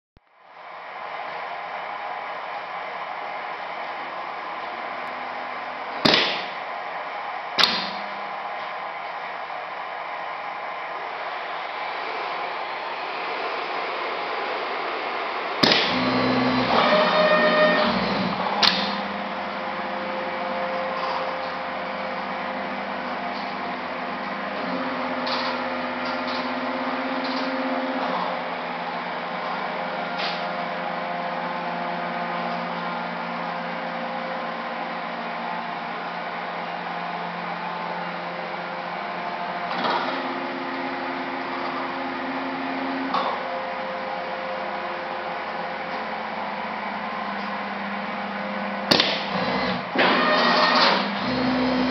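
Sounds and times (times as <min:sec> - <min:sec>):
machine mechanical hum: 0:00.2 - 0:51.9
motor whine: 0:00.5 - 0:51.9.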